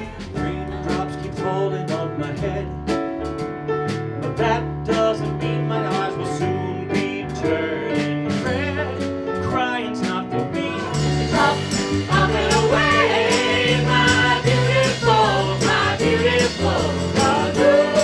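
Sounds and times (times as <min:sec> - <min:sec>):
band playing drums bass guitar: 0:00.0 - 0:18.0.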